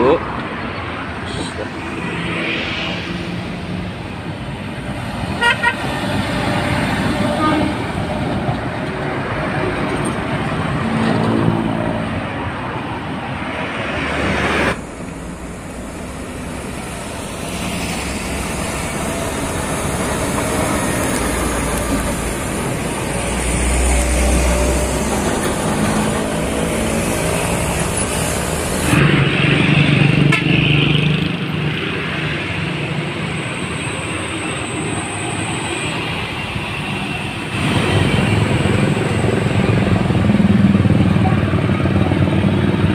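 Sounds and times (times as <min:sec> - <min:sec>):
passing traffic: 0:00.0 - 0:42.9.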